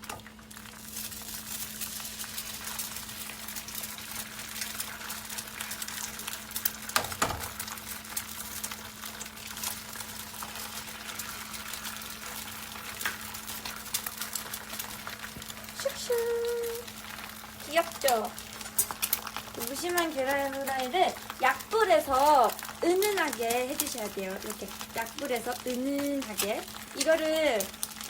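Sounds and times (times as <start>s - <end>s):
eggs sizzling in pan: 0.0s - 28.0s.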